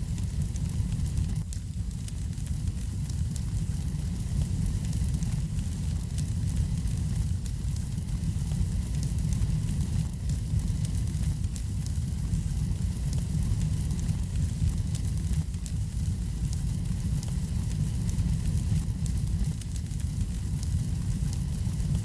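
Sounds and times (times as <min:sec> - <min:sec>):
burning wood crackling and popping: 0:00.0 - 0:22.0
fire flames rumbling: 0:00.0 - 0:22.0.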